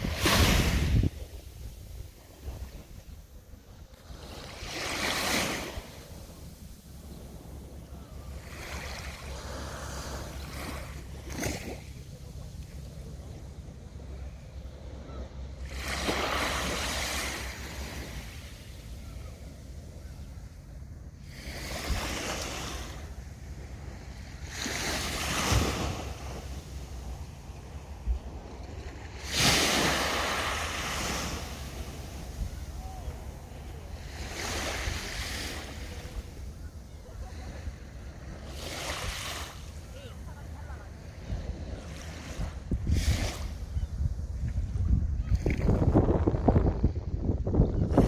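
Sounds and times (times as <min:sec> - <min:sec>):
wind rumble on microphone: 0:00.0 - 0:39.8, 0:40.8 - 0:48.0
gentle sea waves washing ashore: 0:00.0 - 0:48.0.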